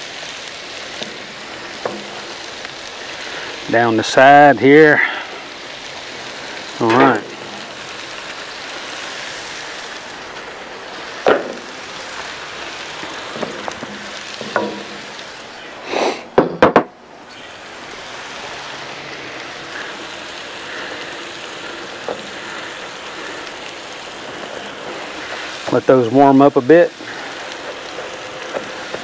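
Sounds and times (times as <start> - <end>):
food sizzling on a griddle: 0.0 - 16.4, 17.1 - 29.0.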